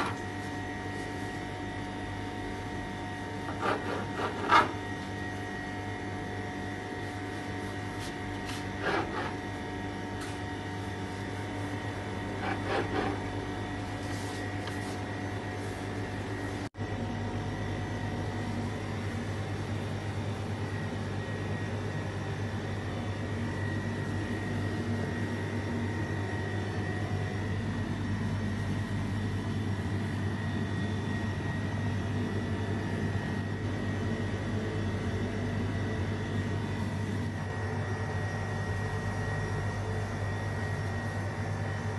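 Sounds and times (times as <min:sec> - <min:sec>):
machine hum with whine: 0:00.0 - 0:41.9.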